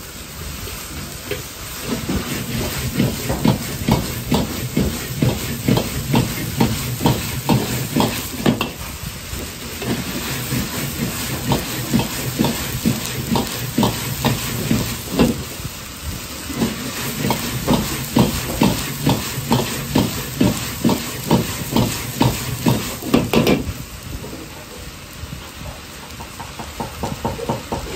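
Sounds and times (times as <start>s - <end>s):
gas burner hissing: 0.0s - 27.9s.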